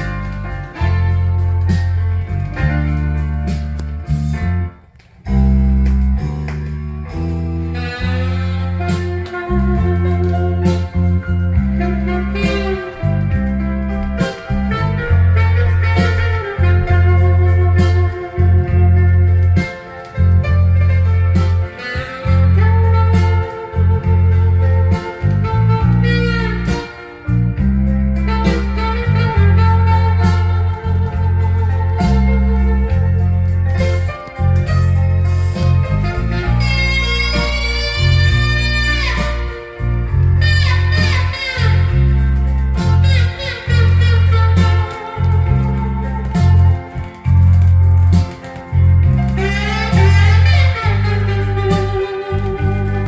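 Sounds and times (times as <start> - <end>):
deep bass line: 0.0 - 53.0
guitar: 0.0 - 53.0.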